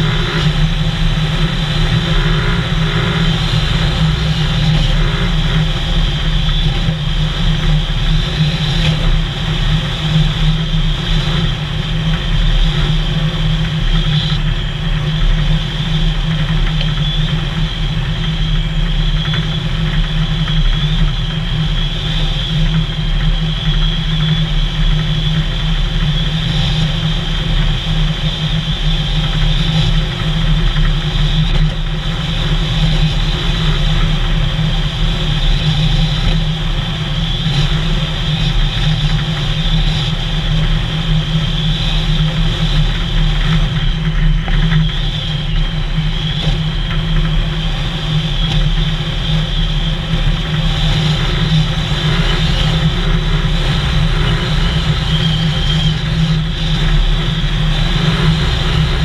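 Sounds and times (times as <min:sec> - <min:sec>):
road noise: 0:00.0 - 0:59.0
vehicle engine droning: 0:00.0 - 0:59.0.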